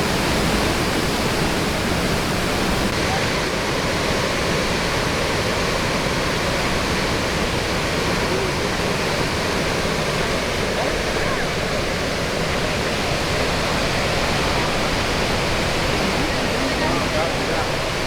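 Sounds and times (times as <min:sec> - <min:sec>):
large waterfall rushing: 0:00.0 - 0:18.0.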